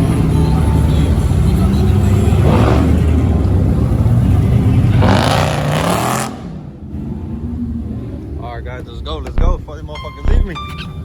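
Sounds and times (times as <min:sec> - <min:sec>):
road noise rush: 0:00.0 - 0:10.1.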